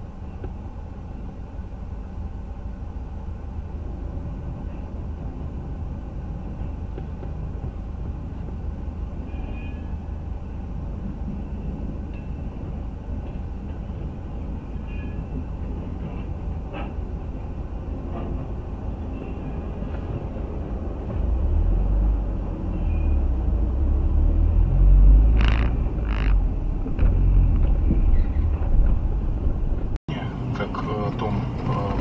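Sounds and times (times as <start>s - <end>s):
diesel locomotive rumble: 0.0s - 32.0s
freight train rumbling past: 0.0s - 32.0s.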